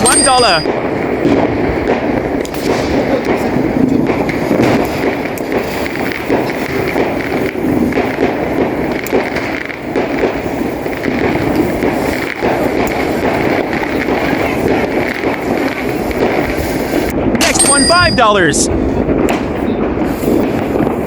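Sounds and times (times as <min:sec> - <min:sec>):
firework crackling hiss: 0:00.7 - 0:17.3, 0:18.4 - 0:21.0
small firework pops: 0:00.7 - 0:17.4, 0:19.0 - 0:21.0.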